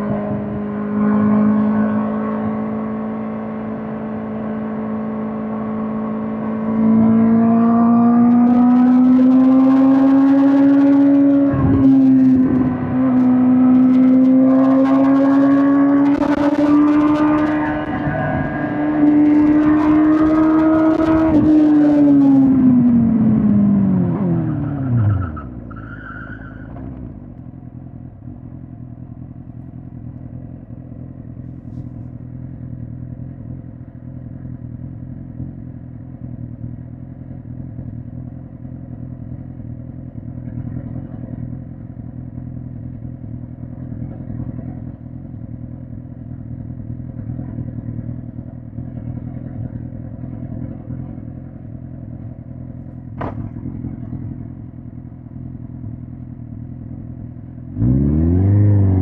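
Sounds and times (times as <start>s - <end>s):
motorcycle engine revving: 0.0s - 25.7s, 26.8s - 59.0s.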